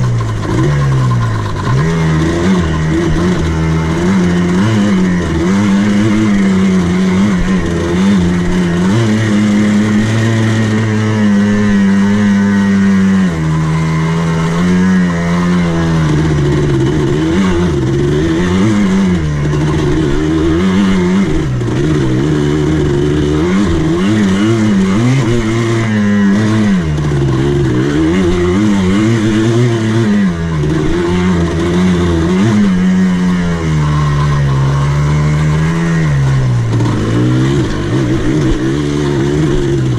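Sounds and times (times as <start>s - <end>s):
buggy engine revving: 0.0s - 39.9s.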